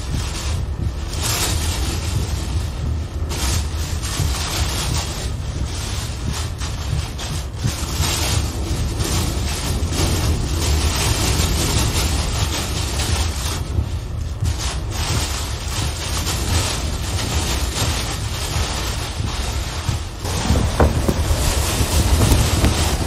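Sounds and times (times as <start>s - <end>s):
driving rain: 0.0s - 23.0s
strong wind buffeting microphone: 0.0s - 23.0s.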